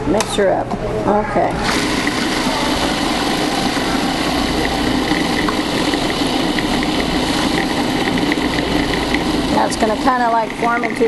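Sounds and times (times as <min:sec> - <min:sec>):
food processor motor running: 0:01.6 - 0:11.0.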